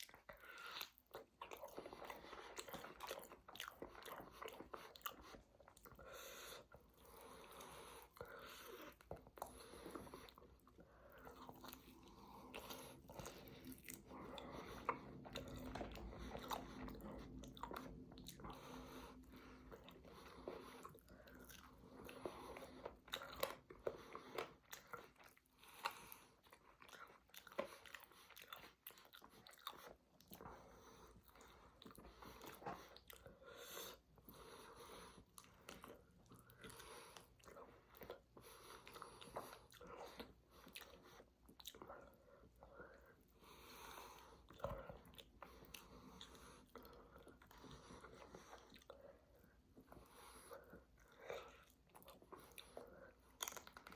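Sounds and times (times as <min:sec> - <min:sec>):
person chewing and biting food: 0:00.0 - 0:34.0, 0:35.2 - 0:43.1, 0:50.6 - 0:53.9.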